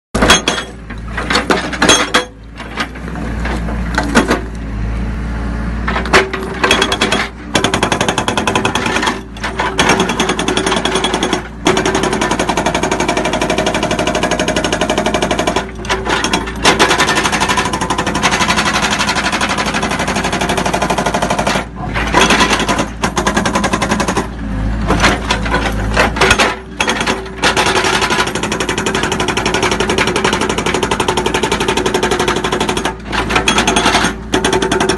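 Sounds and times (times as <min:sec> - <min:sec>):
hydraulic rock breaker hammering rock: 0:00.2 - 0:04.6, 0:05.9 - 0:34.9.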